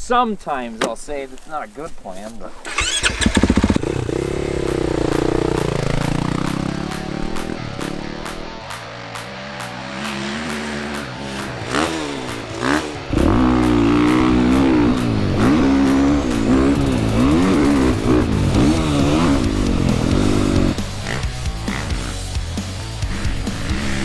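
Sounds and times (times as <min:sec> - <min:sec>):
dirt bike engine revving: 0:02.6 - 0:24.0.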